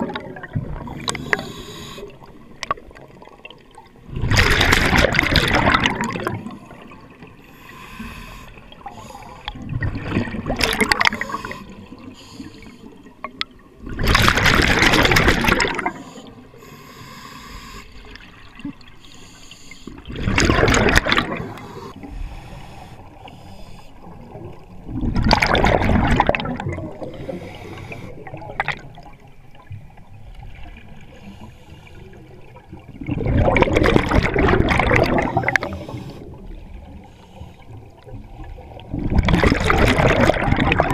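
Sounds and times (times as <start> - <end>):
quiet water noise: 0.0 - 40.9.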